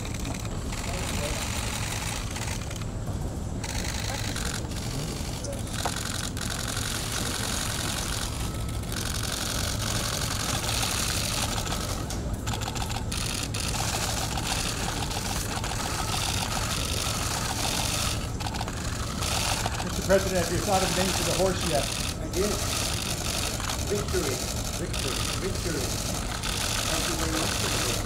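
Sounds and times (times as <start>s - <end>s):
steady low hum: 0.0s - 28.0s
camera shutters clicking: 3.6s - 28.0s.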